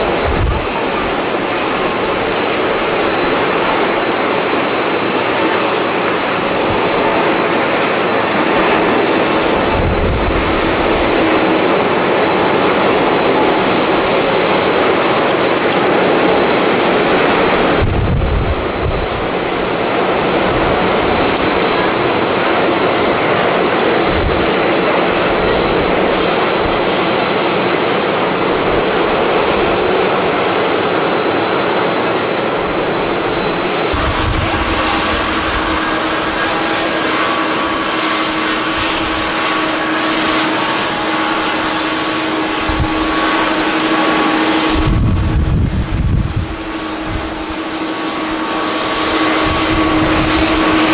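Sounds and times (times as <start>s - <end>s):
wind buffeting microphone: 0.0s - 27.0s, 32.1s - 50.9s
jet airliner engines roaring: 0.0s - 50.9s.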